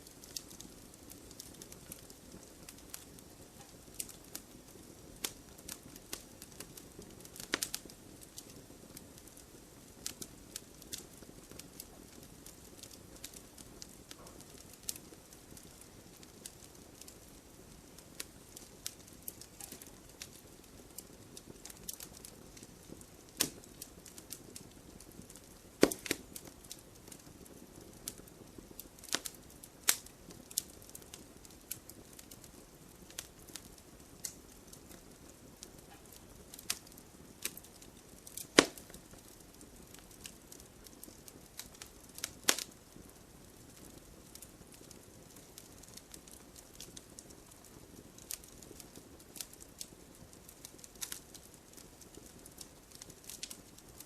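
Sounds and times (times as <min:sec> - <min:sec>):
fire hissing: 0:00.0 - 0:54.0
firewood crackling and popping: 0:00.0 - 0:54.0.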